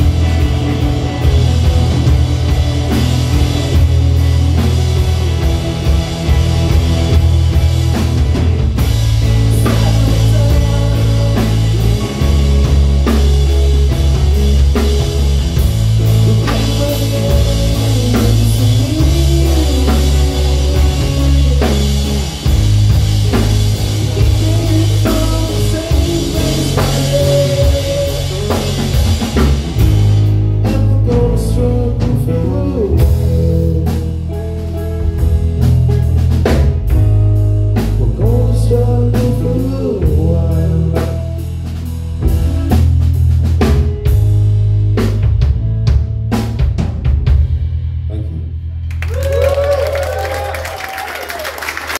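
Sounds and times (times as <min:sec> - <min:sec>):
electric guitar: 0:00.0 - 0:51.9
heavy bass line: 0:00.0 - 0:51.9.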